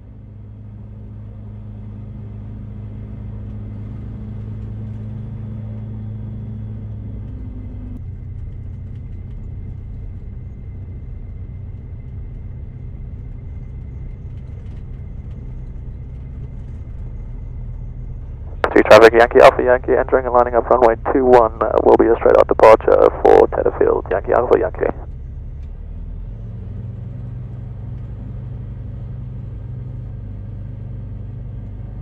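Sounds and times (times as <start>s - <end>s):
aircraft engine and propeller drone: 0.0s - 32.0s.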